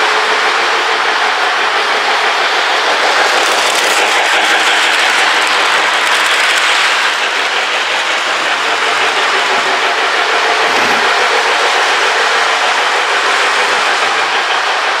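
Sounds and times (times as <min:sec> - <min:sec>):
toy train rolling on track: 0:00.0 - 0:15.0.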